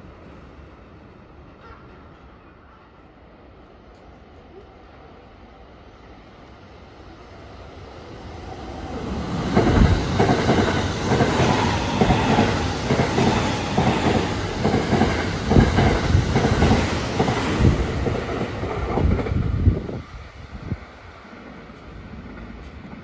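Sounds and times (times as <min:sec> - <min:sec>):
train passing at speed: 0:00.0 - 0:23.0.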